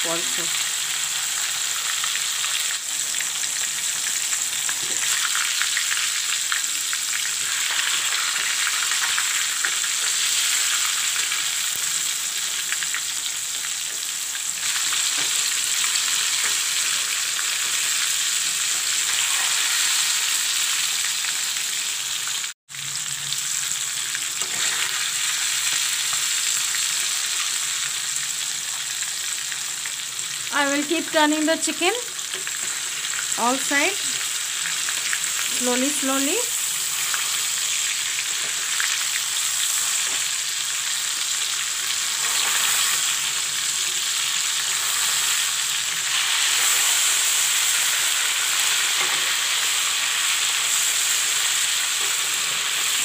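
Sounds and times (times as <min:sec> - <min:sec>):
chicken sizzling in oil: 0:00.0 - 0:53.0.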